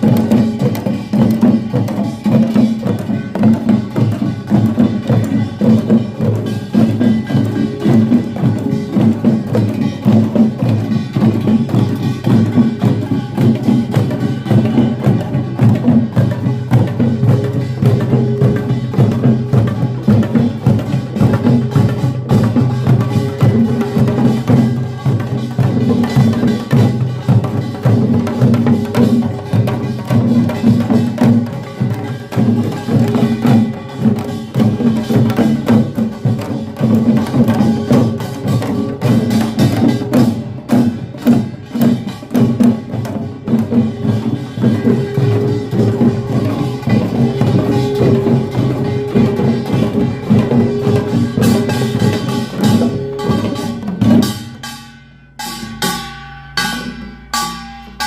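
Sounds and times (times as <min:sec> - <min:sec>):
drums: 0:00.0 - 0:58.0
ringing gongs: 0:00.0 - 0:58.0.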